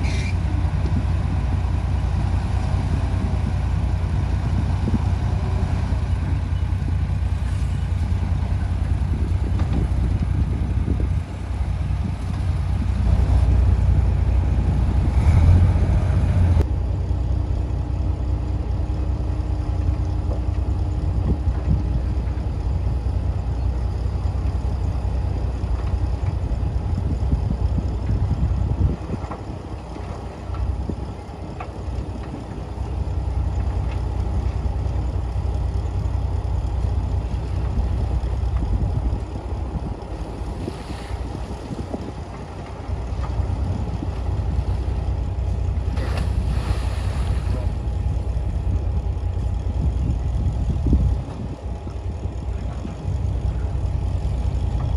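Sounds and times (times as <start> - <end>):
heavy diesel machinery engine: 0.0 - 54.9.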